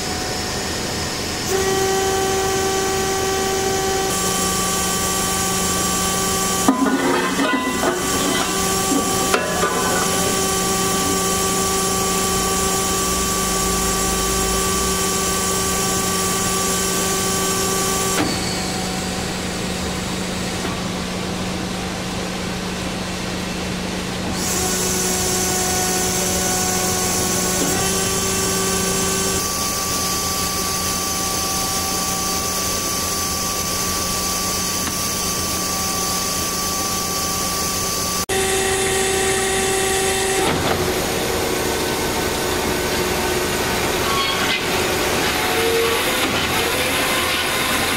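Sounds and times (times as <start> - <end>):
whining tones: 0.0 - 20.8, 24.4 - 47.9
band saw running: 0.0 - 21.8, 24.1 - 47.9.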